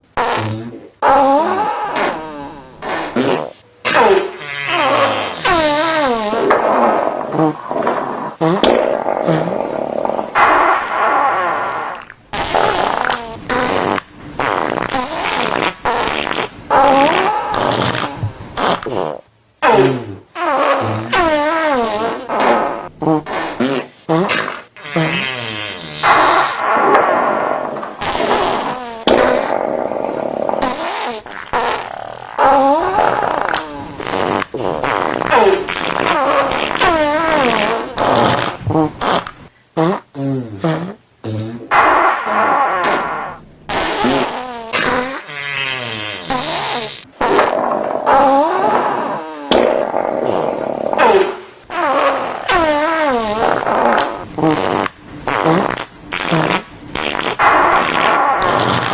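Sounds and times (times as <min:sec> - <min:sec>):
farts: 0:00.0 - 0:58.9.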